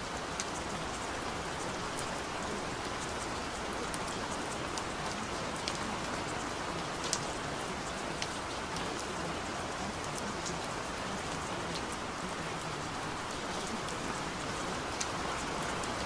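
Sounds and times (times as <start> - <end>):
raindrops ticking: 0.0 - 16.0
steady rain falling: 0.0 - 16.0.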